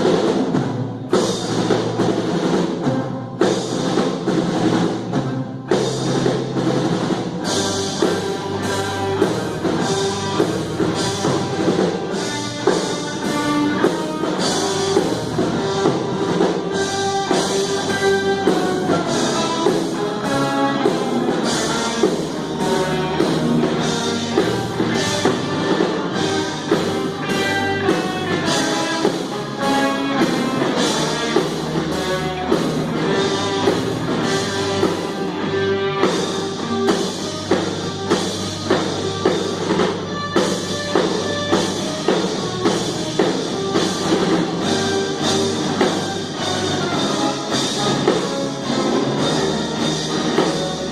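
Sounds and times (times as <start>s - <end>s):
drum kit beat: 0.0s - 50.9s
rock band playing: 0.0s - 50.9s.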